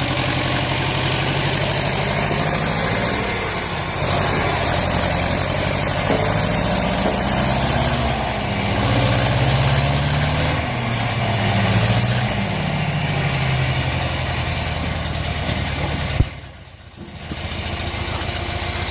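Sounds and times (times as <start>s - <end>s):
backhoe engine running: 0.0s - 18.9s.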